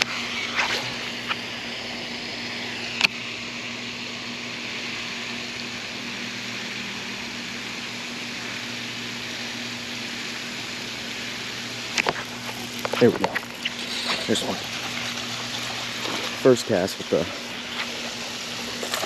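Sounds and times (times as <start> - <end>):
reel hissing with low hum: 0.0 - 19.0.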